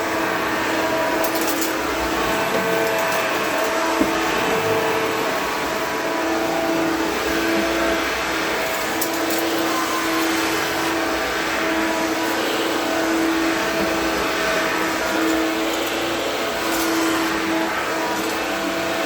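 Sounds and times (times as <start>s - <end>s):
upright vacuum cleaner whining: 0.0s - 19.0s.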